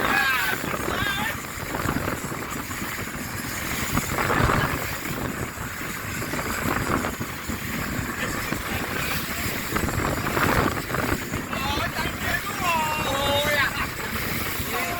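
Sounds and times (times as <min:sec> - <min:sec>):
boats rushing on water: 0:00.0 - 0:14.9
wind buffeting microphone: 0:00.0 - 0:14.9.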